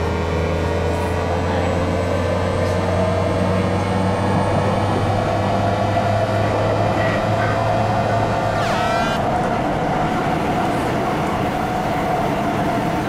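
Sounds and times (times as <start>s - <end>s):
train cabin hum and rumble: 0.0s - 13.0s.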